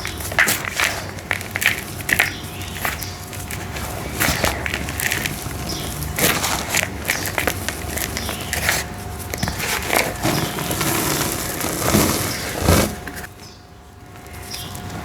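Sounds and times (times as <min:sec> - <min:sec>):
dirt crumbling and crunching: 0:00.0 - 0:15.0.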